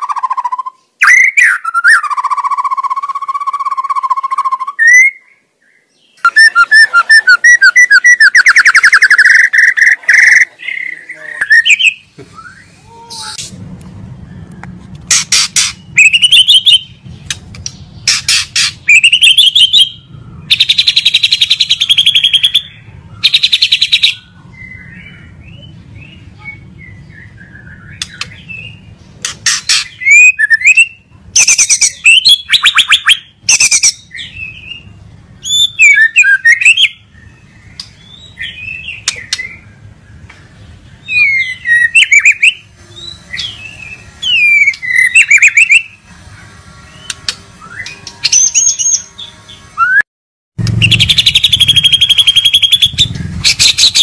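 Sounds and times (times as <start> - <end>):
bird singing trills and whistles: 0.0 - 13.4, 14.2 - 40.3, 40.9 - 46.1, 46.9 - 50.0, 50.7 - 54.0.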